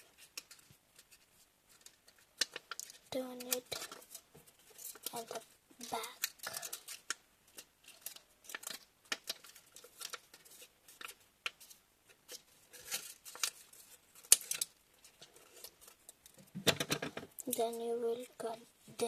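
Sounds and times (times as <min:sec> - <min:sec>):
paper rustling: 0:00.0 - 0:17.8.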